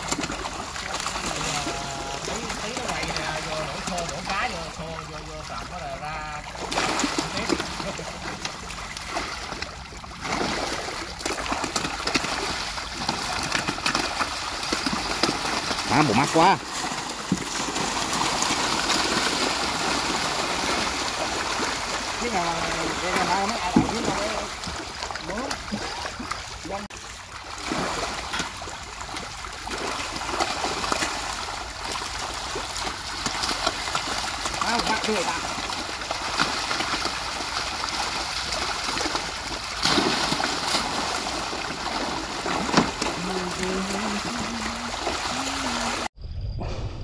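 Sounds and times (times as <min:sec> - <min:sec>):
small sharp splashes and clicks: 0:00.0 - 0:05.7, 0:06.4 - 0:46.1
water splashing and trickling: 0:00.0 - 0:46.2.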